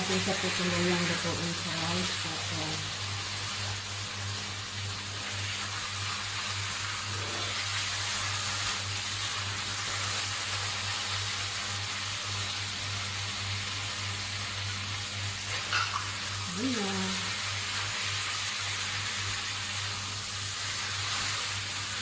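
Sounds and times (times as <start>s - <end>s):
food sizzling in wok: 0.0s - 22.0s.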